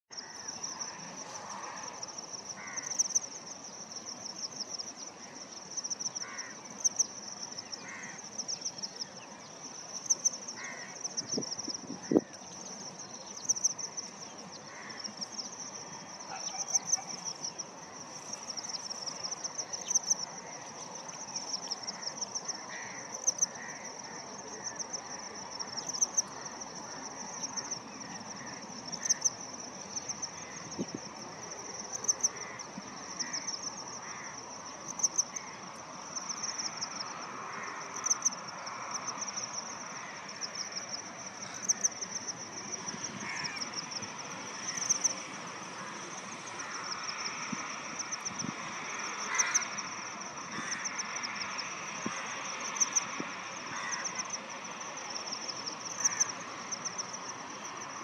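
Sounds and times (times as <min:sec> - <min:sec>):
high-pitched insect chorus: 0:00.1 - 0:58.0.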